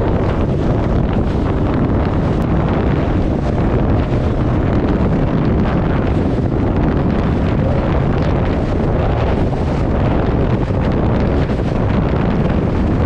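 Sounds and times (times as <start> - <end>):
boat engine: 0.0 - 13.0
hull on water: 0.0 - 13.0
wind buffeting microphone: 0.0 - 13.0.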